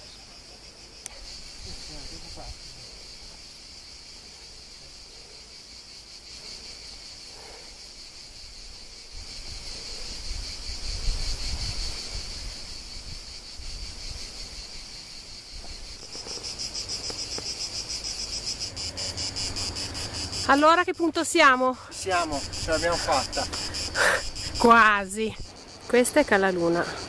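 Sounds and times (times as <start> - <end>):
cicadas buzzing: 0.0 - 27.0.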